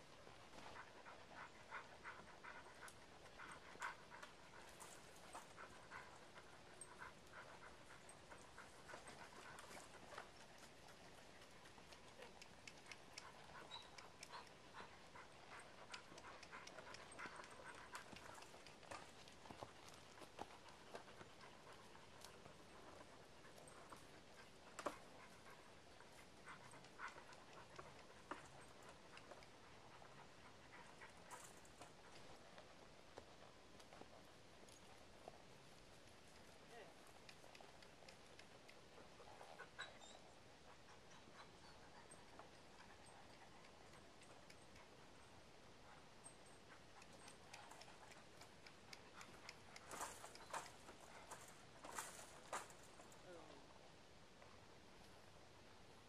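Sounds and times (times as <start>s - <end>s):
faint clicks: 0.5s - 40.0s, 40.6s - 53.2s.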